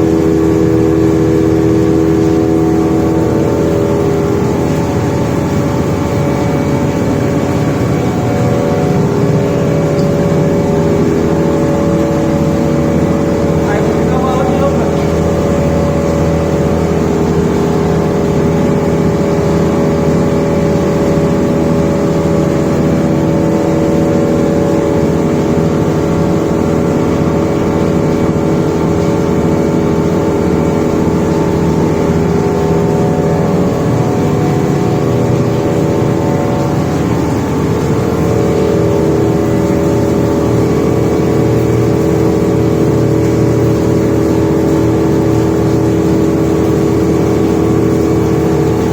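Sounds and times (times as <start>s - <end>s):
wire saw machine drone: 0.0s - 48.9s.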